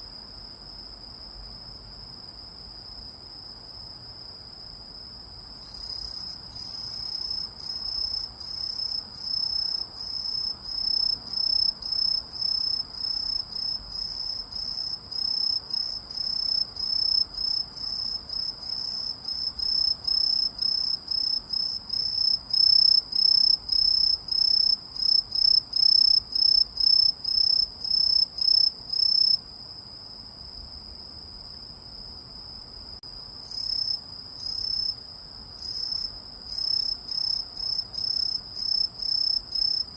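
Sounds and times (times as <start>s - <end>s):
insect chirping: 0.1s - 39.9s.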